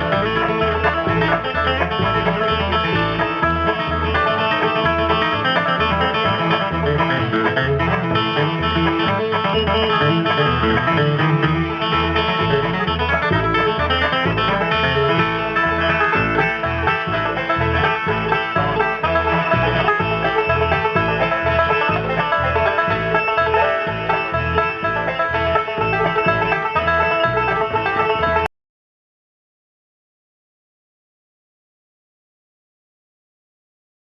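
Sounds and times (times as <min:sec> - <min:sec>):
banjo picking: 0:00.0 - 0:28.5
guitar: 0:00.0 - 0:28.5
plucked bass beat: 0:00.0 - 0:28.5.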